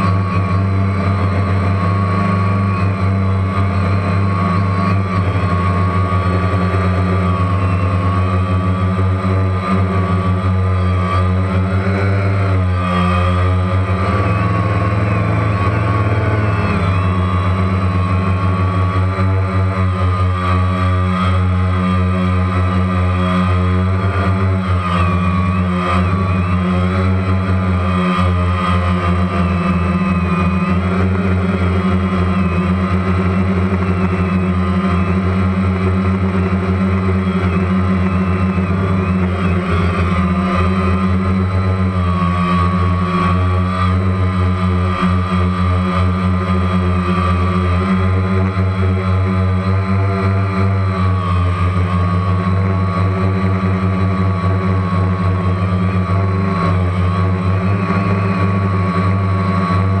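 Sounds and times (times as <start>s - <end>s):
drone propellers buzzing: 0.0s - 60.0s.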